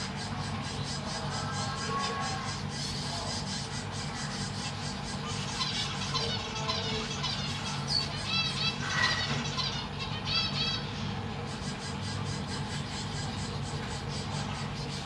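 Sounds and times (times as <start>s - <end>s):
finches chirping: 0.0s - 15.0s
steady low hum: 0.0s - 15.0s
rising and falling finch calls: 0.1s - 15.0s.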